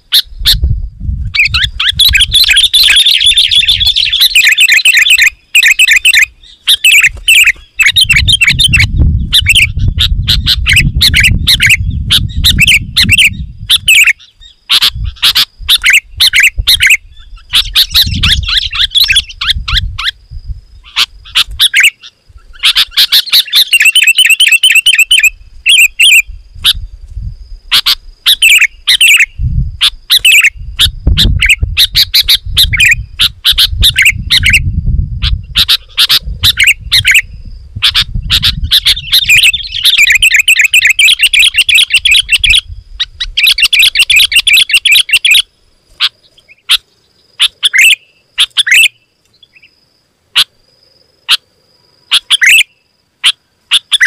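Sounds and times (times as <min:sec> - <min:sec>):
birds singing whistled phrases: 0:00.0 - 0:49.8, 0:52.0 - 0:54.0.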